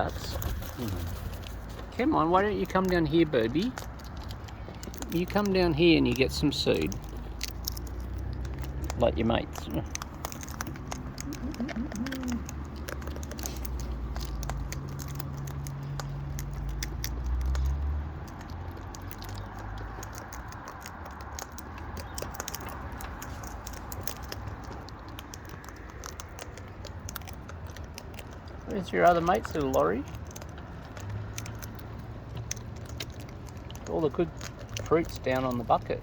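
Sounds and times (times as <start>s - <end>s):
beaks cracking seed: 0.0s - 36.0s.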